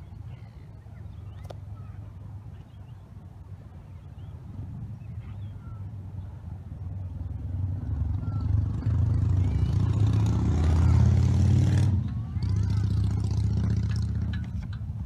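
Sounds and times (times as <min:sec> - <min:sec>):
vehicle engine hum approaching: 0:00.0 - 0:15.0.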